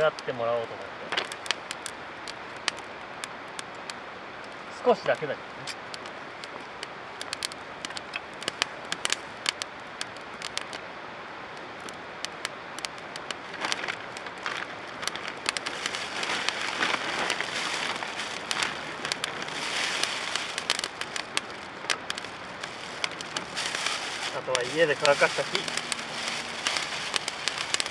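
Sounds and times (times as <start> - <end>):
campfire crackling and popping: 0.0 - 27.9
rushing hiss of flame: 0.0 - 27.9.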